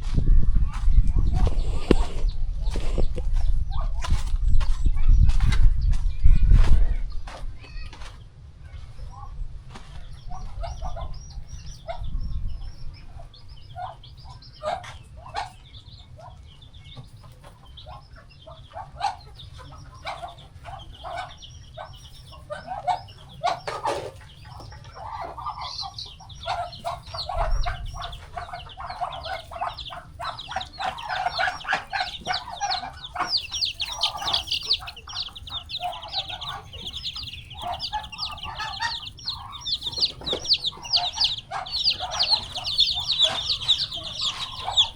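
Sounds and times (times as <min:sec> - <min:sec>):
chickens clucking: 0:00.0 - 0:44.9
chicks peeping: 0:00.0 - 0:44.9.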